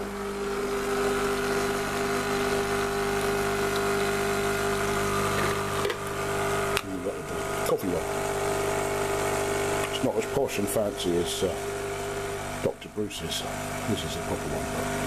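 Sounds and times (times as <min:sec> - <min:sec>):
coffee machine pump humming: 0:00.0 - 0:15.0.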